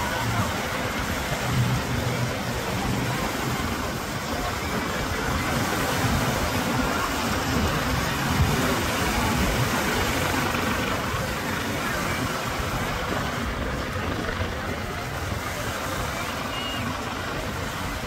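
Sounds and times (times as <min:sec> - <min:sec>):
helicopter flying low: 0:00.0 - 0:18.0.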